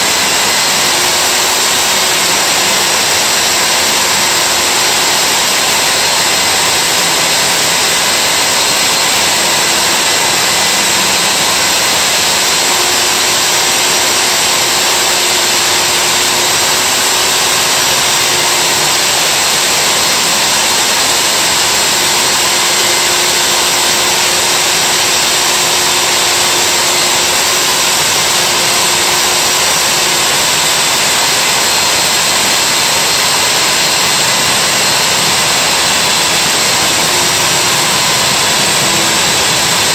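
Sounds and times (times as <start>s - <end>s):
core drill boring into wall: 0.0s - 39.9s.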